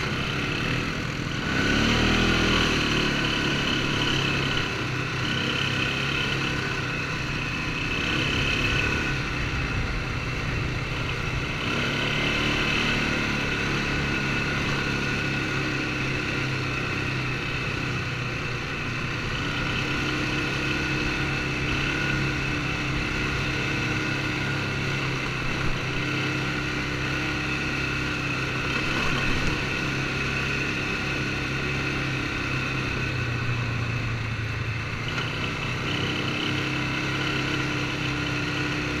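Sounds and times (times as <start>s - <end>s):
quad bike engine running: 0.0s - 39.0s.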